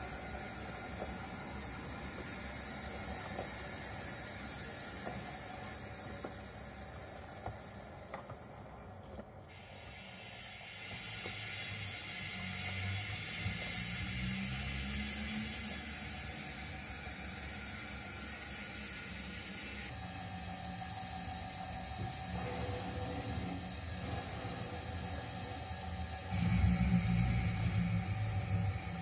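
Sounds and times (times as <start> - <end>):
model railway coaches rolling: 0.0 - 29.0.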